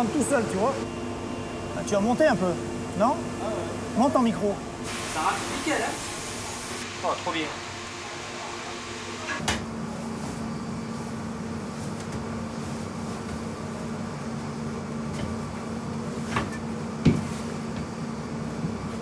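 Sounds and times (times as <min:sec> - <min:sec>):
machine hum with low tone: 0:00.0 - 0:19.0.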